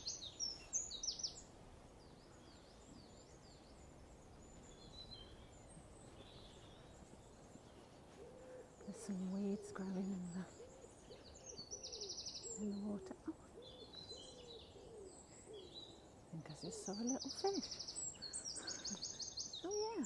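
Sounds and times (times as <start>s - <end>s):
faint bird chirps: 0.0s - 20.0s
songbird singing falling notes: 0.0s - 20.0s.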